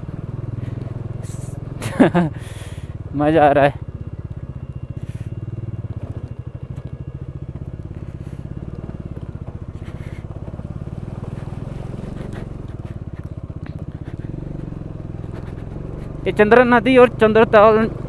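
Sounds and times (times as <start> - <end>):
motorcycle engine chugging: 0.0 - 18.0.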